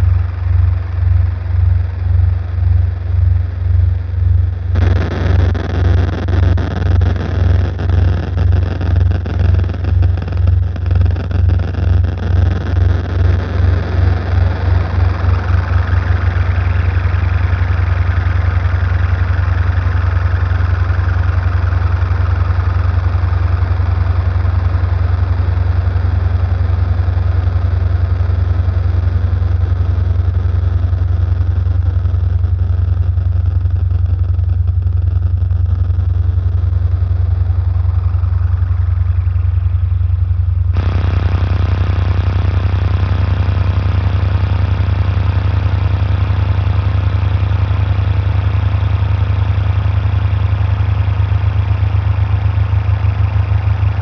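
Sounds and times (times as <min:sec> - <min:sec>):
pulsing bass drone: 0:00.0 - 0:54.0.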